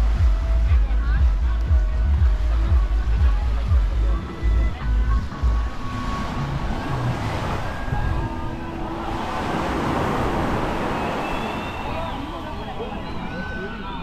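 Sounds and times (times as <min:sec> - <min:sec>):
waves washing onto sand: 0:00.0 - 0:13.6
distant voices: 0:00.0 - 0:14.0.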